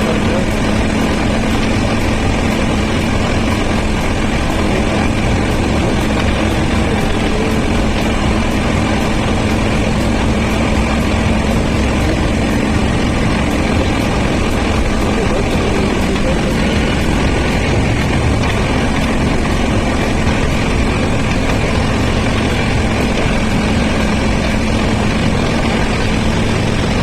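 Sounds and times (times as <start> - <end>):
passenger train running: 0.0 - 27.0.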